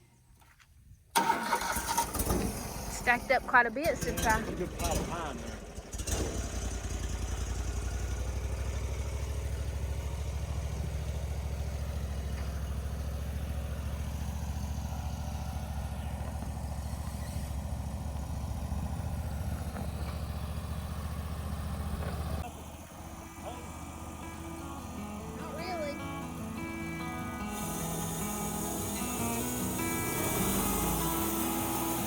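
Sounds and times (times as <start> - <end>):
engine idling: 1.2 - 32.0.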